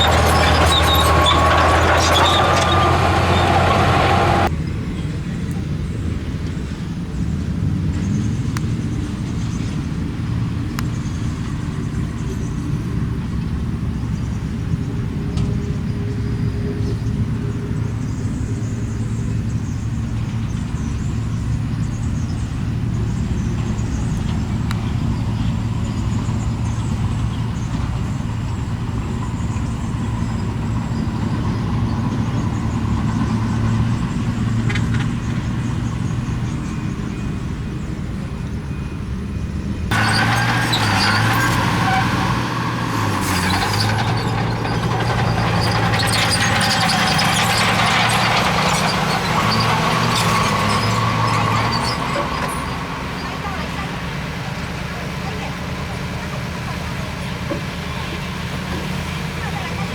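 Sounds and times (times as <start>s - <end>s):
heavy machinery engine drone: 0.0s - 59.9s.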